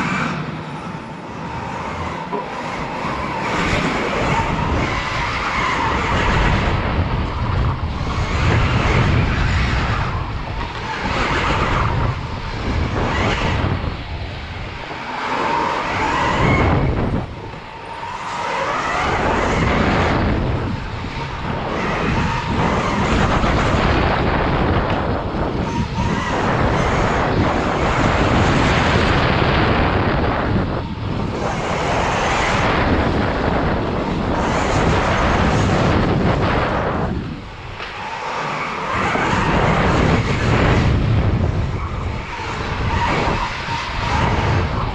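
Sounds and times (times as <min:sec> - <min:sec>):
electric motor and drivetrain: 0:00.0 - 0:44.9
wind rushing over camera: 0:00.0 - 0:44.9.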